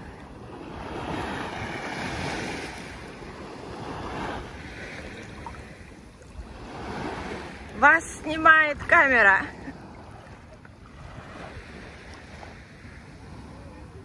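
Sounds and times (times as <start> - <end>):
sea waves washing onto beach: 0.0 - 14.0
wind rumbling on microphone: 0.0 - 14.0.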